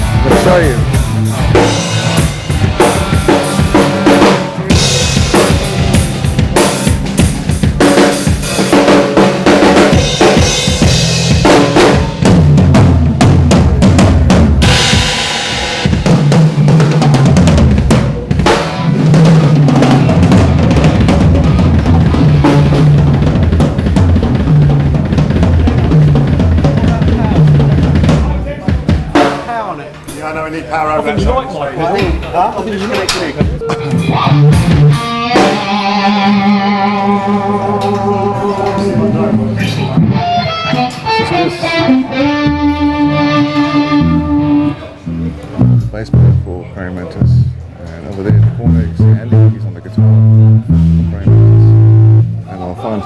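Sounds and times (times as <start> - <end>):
low bass notes: 0.0 - 28.9, 33.4 - 52.6
drum kit playing loud: 0.0 - 30.1, 30.9 - 46.5, 48.3 - 52.5.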